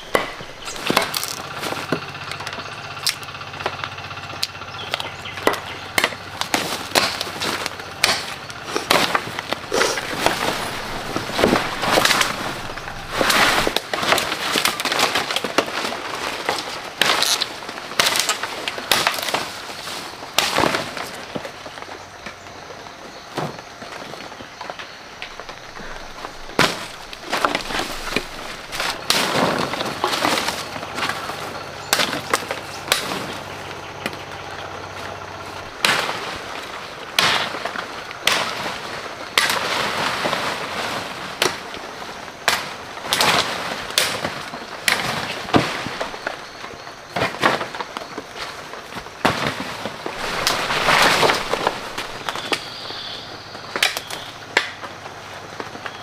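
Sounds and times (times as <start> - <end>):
dry branches snapping: 0.0 - 22.4, 24.7 - 56.0
leaves and brush rustling: 0.0 - 56.0.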